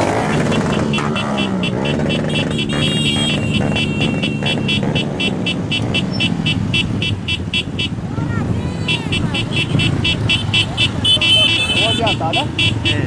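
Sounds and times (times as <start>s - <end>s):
horn beeping rapidly: 0.0s - 13.0s
small motorcycles running: 0.0s - 13.0s.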